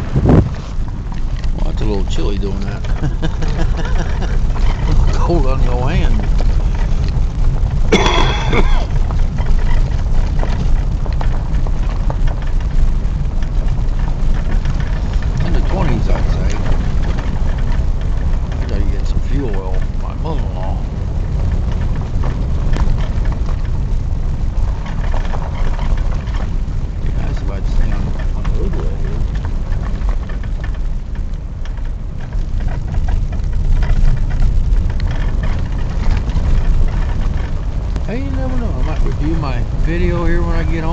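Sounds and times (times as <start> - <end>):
light crackles and ticks: 0.0 - 40.9
vehicle driving rumble: 0.0 - 40.9
wind buffeting microphone: 0.0 - 40.9.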